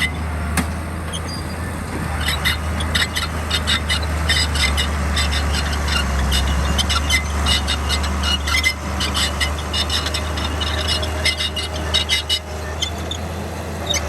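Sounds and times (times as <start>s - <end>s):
bulldozer diesel engine drone: 0.0s - 14.0s
short squeaks: 1.1s - 14.0s.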